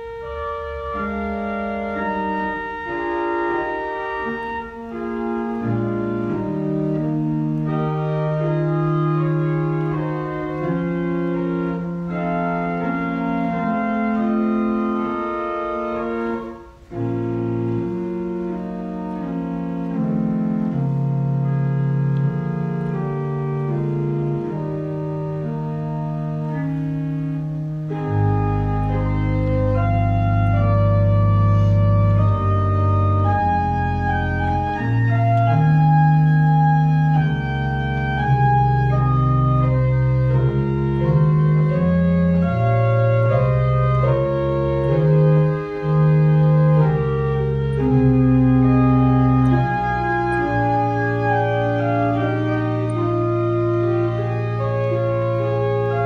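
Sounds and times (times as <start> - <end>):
organ playing sustained chords: 0.0 - 56.0.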